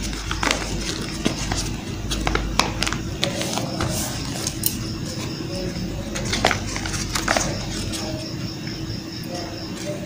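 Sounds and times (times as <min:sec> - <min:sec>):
paper rustling and crinkling: 0:00.0 - 0:08.5
steady background hum: 0:00.0 - 0:10.0.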